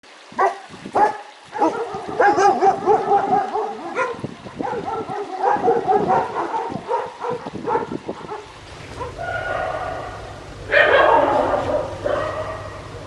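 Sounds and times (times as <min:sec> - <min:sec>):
dog barking rapidly: 0:00.4 - 0:13.0.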